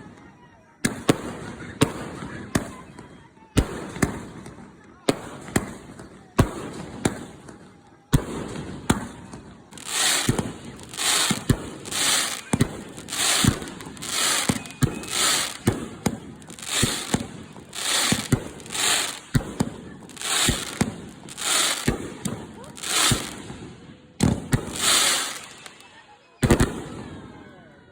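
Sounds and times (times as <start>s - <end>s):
firework bursts with crackle: 0.8s - 3.0s, 3.6s - 27.3s
fireworks bangs: 3.6s - 27.3s.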